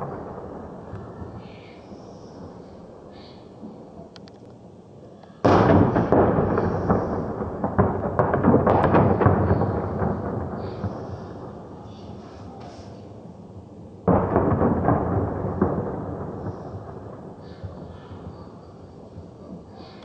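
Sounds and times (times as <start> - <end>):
firework burst: 0.0 - 4.0, 5.4 - 20.0
fireworks crackling: 0.0 - 4.8, 5.4 - 20.0.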